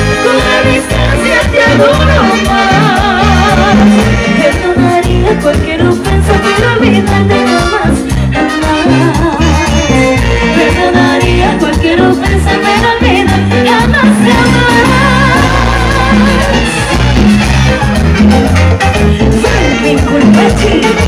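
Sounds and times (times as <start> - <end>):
woman singing: 0.0 - 17.0, 19.4 - 21.0
congas: 0.0 - 21.0
latin dance band playing: 0.0 - 21.0.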